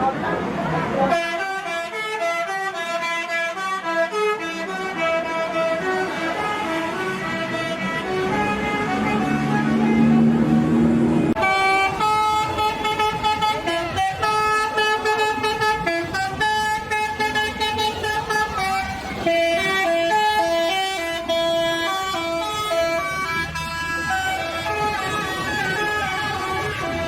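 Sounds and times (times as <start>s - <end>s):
musical air horn playing tune: 1.1s - 10.3s, 11.4s - 27.0s.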